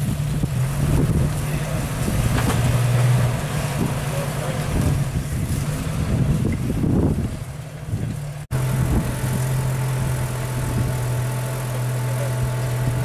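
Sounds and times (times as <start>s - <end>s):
buggy engine running at low revs: 0.0s - 13.0s.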